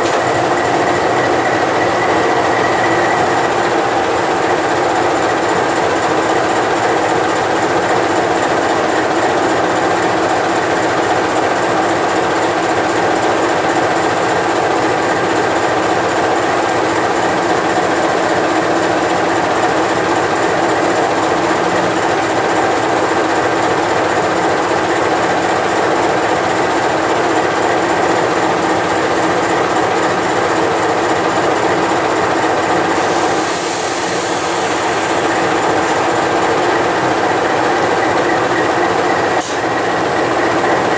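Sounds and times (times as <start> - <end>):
diesel locomotive idling: 0.0 - 40.9.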